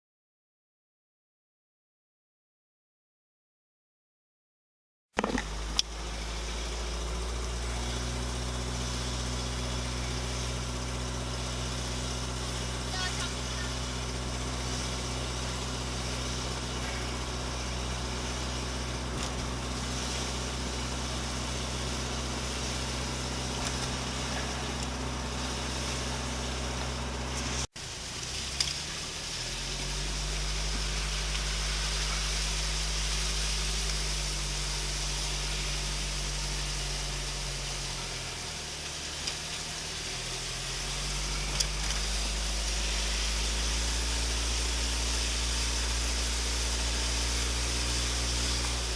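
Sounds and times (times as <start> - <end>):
car engine running: 5.2 - 48.9
road noise: 5.2 - 48.9.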